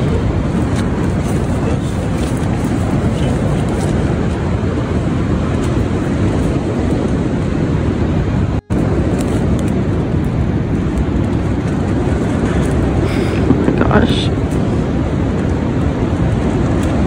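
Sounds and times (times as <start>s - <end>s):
wind buffeting a tent: 0.0s - 17.0s.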